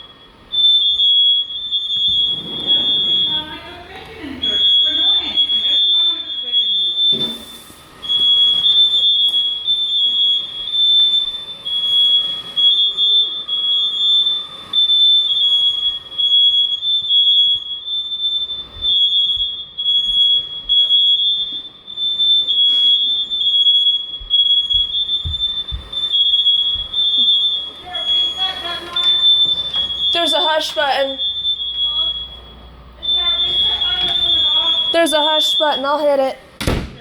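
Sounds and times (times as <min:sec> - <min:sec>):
smoke alarms beeping: 0:00.0 - 0:37.0.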